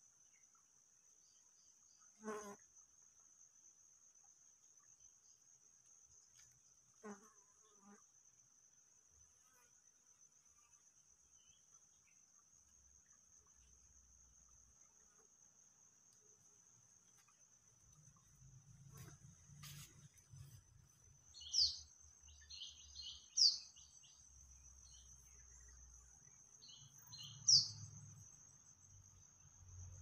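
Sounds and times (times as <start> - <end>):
crickets trilling: 4.7 - 30.0.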